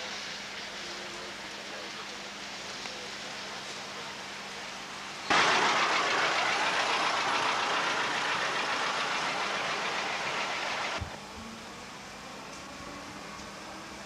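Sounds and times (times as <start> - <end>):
vehicle engine and road noise: 1.8 - 14.0.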